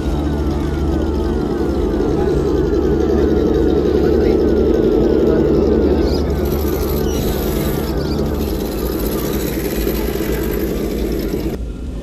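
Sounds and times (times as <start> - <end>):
electric motors humming: 0.0 - 11.6.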